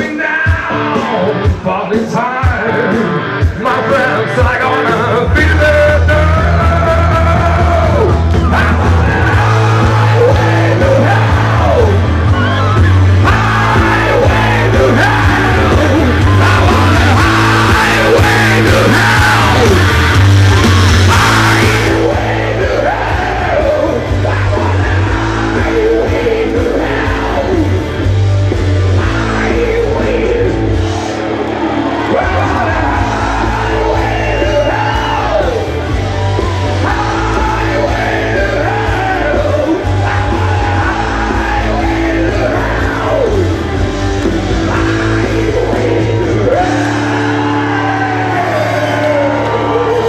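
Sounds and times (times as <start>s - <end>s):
live rock music with singer: 0.0s - 50.0s.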